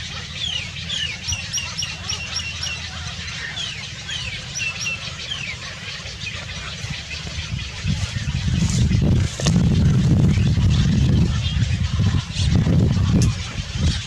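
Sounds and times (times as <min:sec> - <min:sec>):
songbird chirping: 0:00.0 - 0:14.0
steady low rumble: 0:00.0 - 0:14.0.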